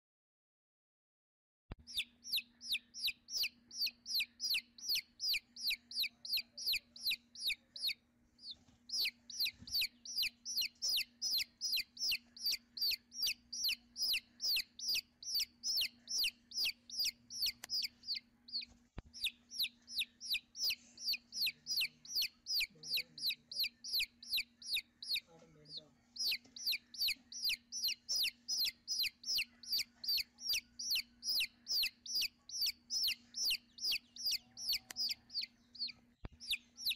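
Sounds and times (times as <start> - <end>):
nestling birds cheeping: 1.8 - 36.9.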